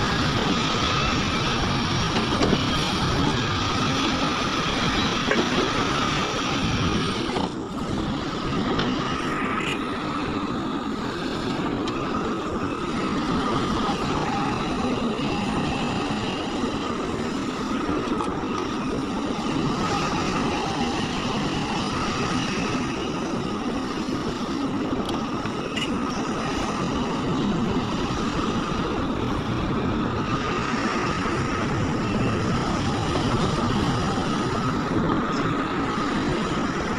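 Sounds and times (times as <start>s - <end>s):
heavy diesel machinery running: 0.0s - 36.9s.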